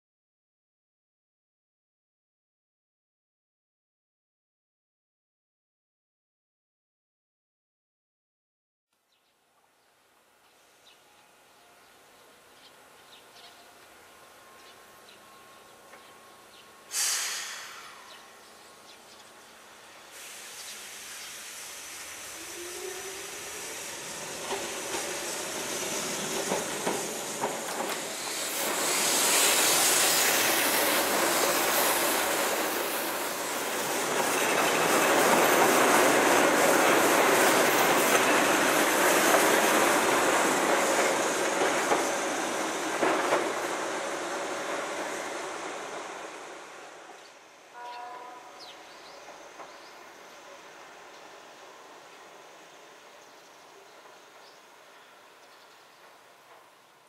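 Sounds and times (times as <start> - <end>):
electric train passing: 10.0 - 57.0.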